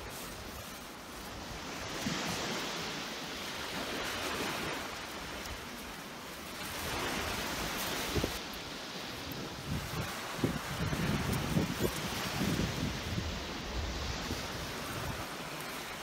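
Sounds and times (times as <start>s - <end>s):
surf washing on beach: 0.0s - 16.0s.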